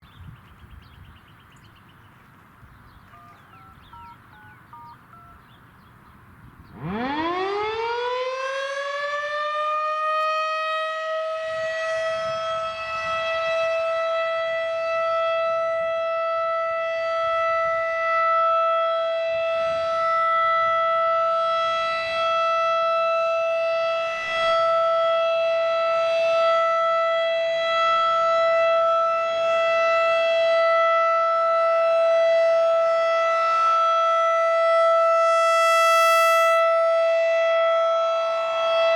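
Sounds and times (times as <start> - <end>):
warning siren steady tone: 3.1 - 5.7, 6.6 - 38.9.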